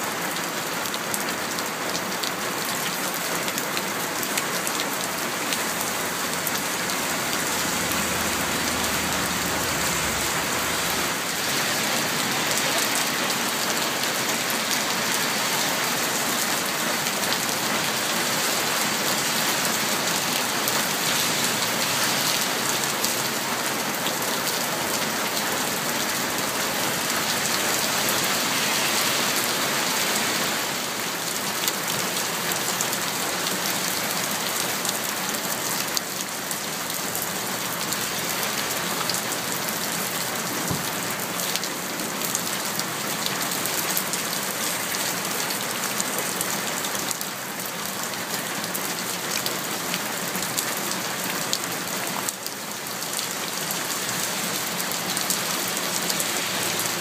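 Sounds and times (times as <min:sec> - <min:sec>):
heavy rain: 0:00.0 - 0:57.0
water running over ground: 0:00.1 - 0:57.0.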